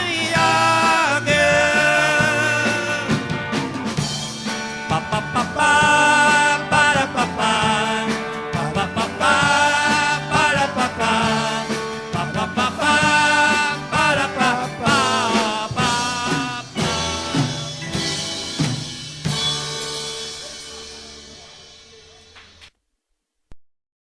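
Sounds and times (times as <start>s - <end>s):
live pop-rock band: 0.0s - 22.6s
drums: 0.0s - 22.7s.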